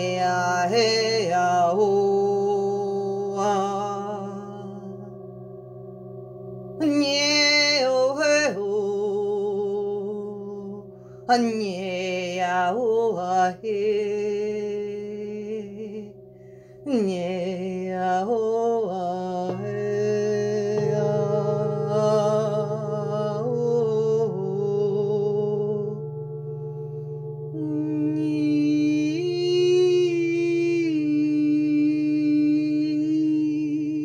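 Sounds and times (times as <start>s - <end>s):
lower drone tone: 0.0s - 34.0s
singing bowls ringing drone: 0.0s - 34.0s.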